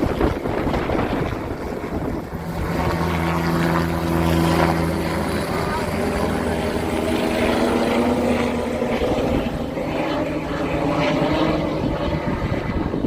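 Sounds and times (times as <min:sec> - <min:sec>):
helicopter rotors and turbine: 0:00.0 - 0:13.0
wind buffeting microphone: 0:00.0 - 0:13.0.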